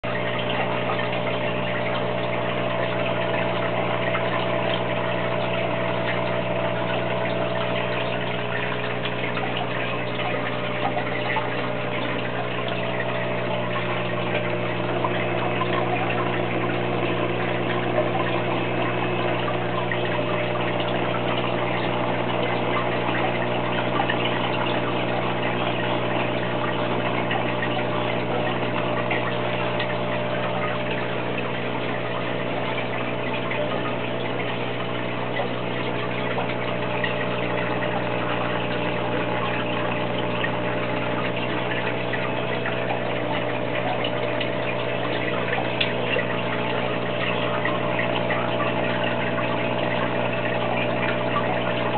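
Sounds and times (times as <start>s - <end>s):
aquarium pump humming: 0.0s - 51.9s
water bubbling in filters: 0.0s - 51.9s.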